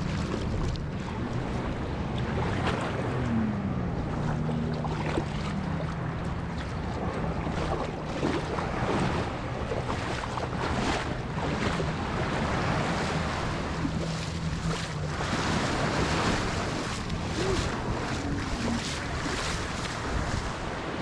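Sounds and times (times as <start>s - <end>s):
boat engine running: 0.0s - 21.0s
water splashing against hull: 0.0s - 21.0s
wind buffeting microphone: 0.0s - 21.0s.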